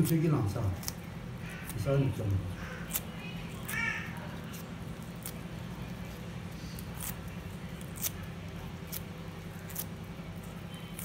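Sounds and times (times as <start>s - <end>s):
crisp clicks of tearing paper cells: 0.0s - 11.0s.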